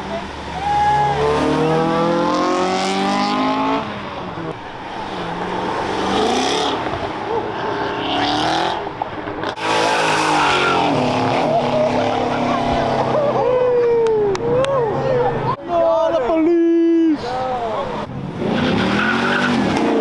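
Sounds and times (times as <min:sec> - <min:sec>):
cars accelerating hard: 0:00.0 - 0:15.6, 0:17.2 - 0:20.0.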